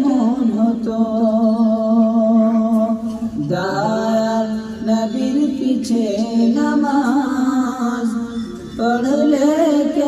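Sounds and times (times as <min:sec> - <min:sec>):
man singing devotional song: 0:00.0 - 0:10.0.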